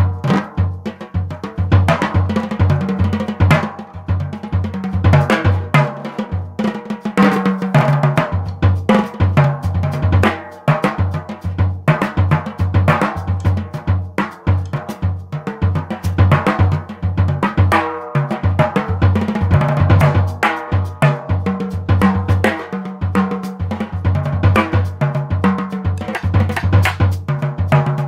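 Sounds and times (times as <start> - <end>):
stick strokes on snare and toms: 0.0 - 28.0.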